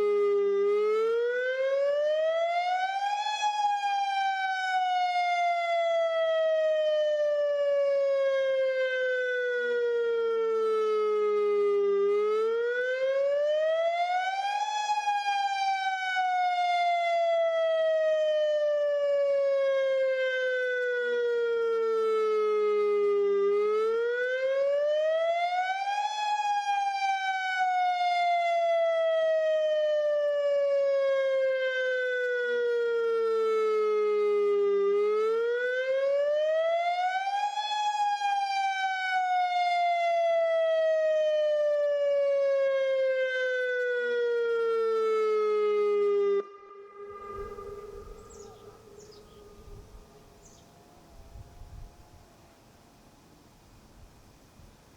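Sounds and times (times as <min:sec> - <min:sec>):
tornado siren wailing: 0:00.0 - 0:53.3.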